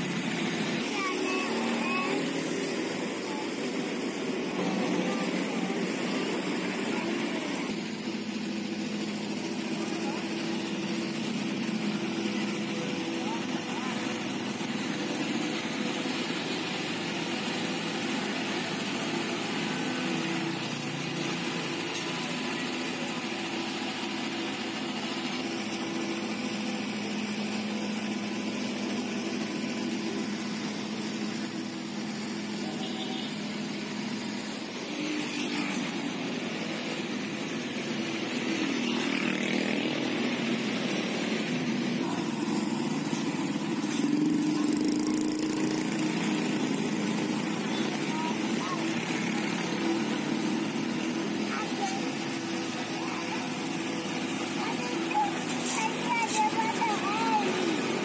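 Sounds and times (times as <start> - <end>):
construction machinery diesel engines: 0.0 - 58.0.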